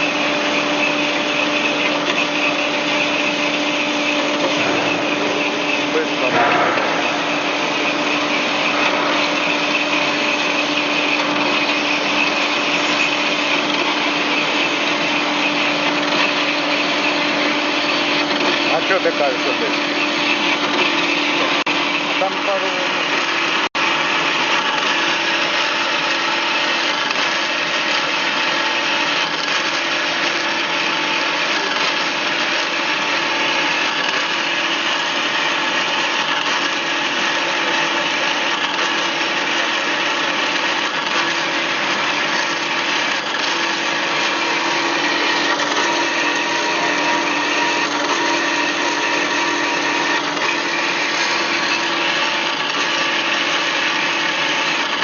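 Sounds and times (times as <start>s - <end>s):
band saw running: 0.0s - 55.0s.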